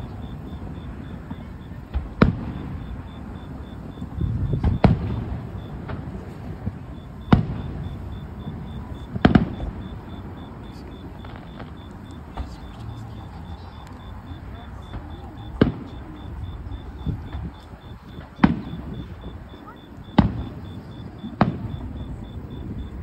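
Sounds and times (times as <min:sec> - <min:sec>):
fireworks bursting with sharp bangs: 0:00.0 - 0:23.0.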